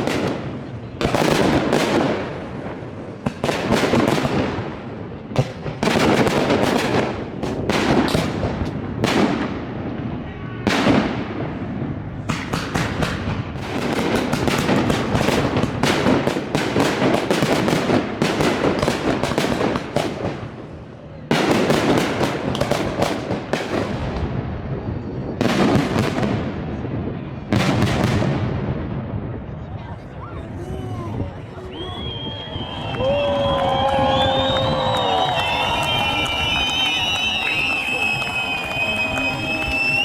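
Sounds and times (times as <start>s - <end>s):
fireworks bursting and crackling: 0.0s - 30.0s, 31.1s - 40.0s.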